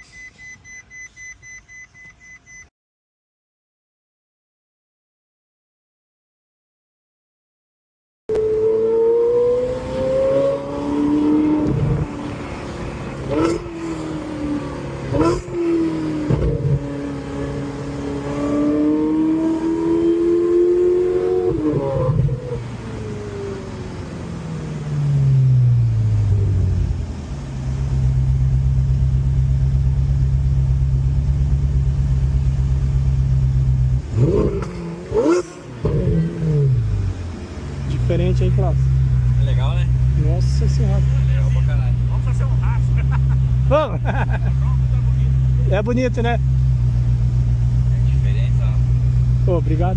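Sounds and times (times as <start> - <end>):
car engine revving and idling: 8.3 - 49.9.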